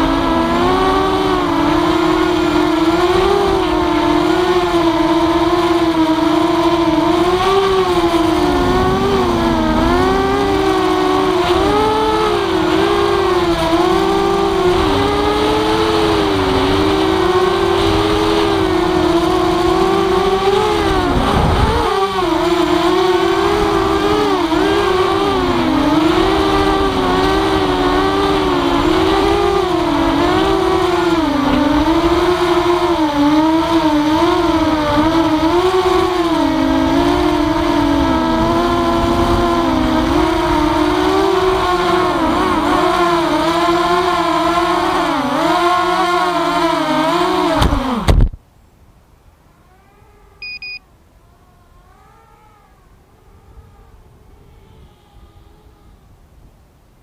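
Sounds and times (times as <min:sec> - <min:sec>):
quadcopter motors whining: 0:00.0 - 0:48.3, 0:49.5 - 0:56.5.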